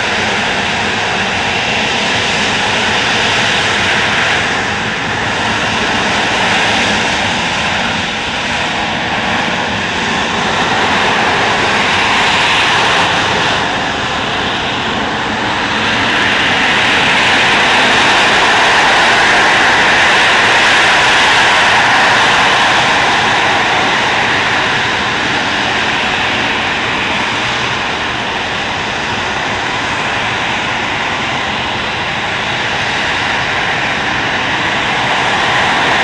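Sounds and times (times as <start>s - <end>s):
jet engine rushing noise: 0.0s - 36.0s.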